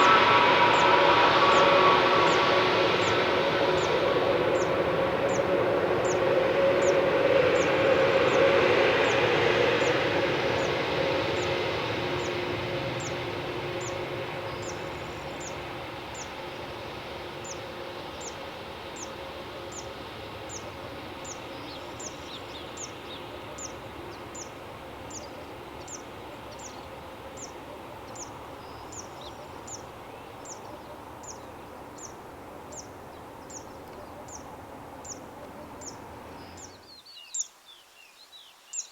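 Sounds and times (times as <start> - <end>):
jet engines: 0.0 - 36.8.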